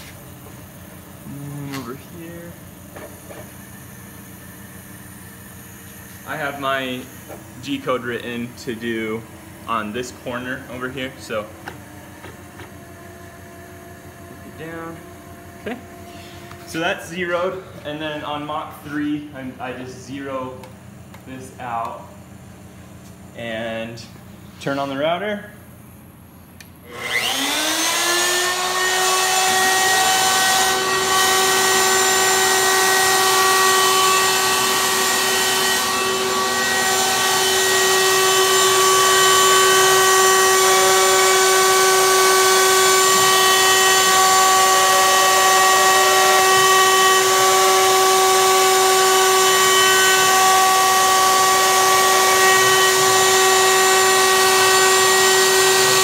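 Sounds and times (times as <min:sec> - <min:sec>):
wood router high whine: 0:00.0 - 0:22.1, 0:26.8 - 0:56.0.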